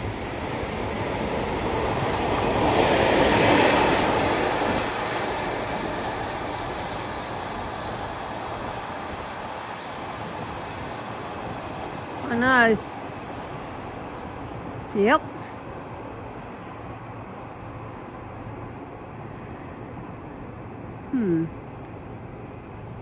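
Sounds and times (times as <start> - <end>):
train passing: 0.0 - 21.0, 21.6 - 23.0.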